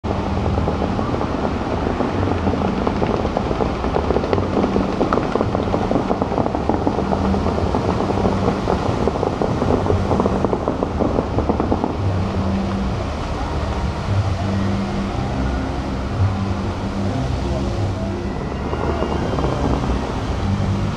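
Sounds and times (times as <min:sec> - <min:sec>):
low hum: 0:00.0 - 0:20.9
fountain jets spraying water: 0:00.1 - 0:20.9.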